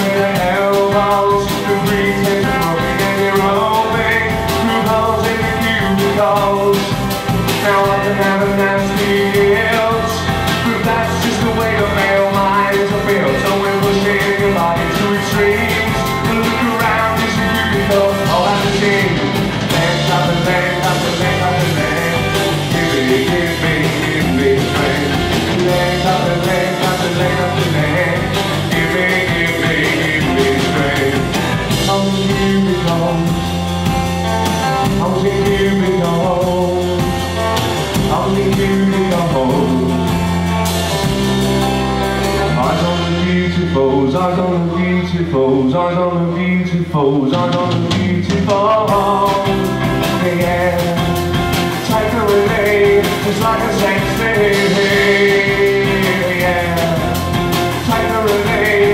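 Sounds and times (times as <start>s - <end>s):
person singing: 0.0s - 40.6s, 42.2s - 58.9s
drum kit: 0.0s - 45.6s, 46.2s - 58.9s
bass guitar: 0.0s - 58.9s
electric guitars: 0.0s - 58.9s.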